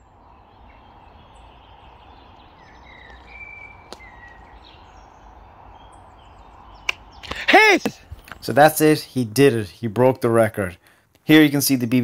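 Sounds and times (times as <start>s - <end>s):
low outdoor rumble: 0.0s - 10.8s
birds chirping: 0.0s - 12.0s.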